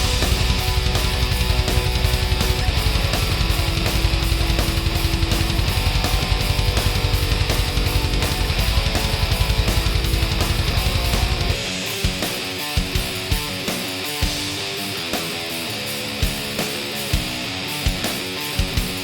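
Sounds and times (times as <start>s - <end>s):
distorted electric guitar: 0.0s - 19.0s
fast rock music: 0.0s - 19.0s.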